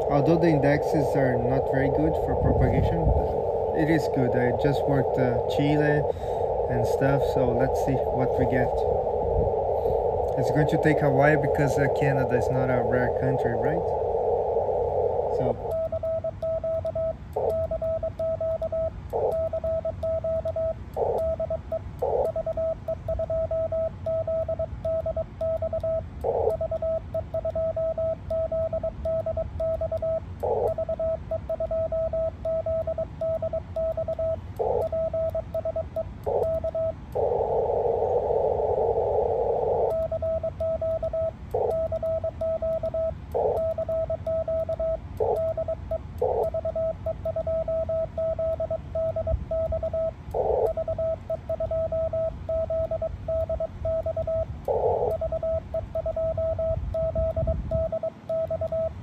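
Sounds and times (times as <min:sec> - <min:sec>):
hissy radio band noise: 0:00.0 - 0:59.0
morse code tone: 0:00.0 - 0:59.0.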